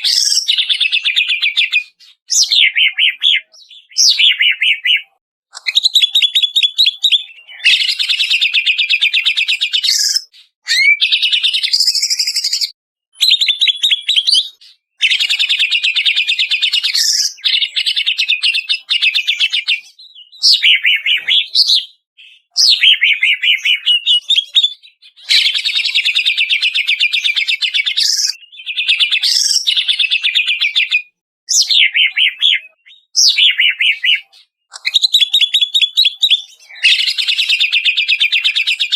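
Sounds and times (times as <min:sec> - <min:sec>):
bird singing rapid whistles: 0:00.0 - 0:38.9.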